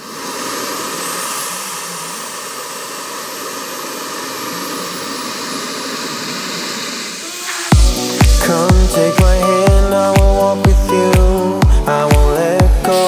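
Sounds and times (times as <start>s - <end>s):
model jet turbine running: 0.0s - 10.7s.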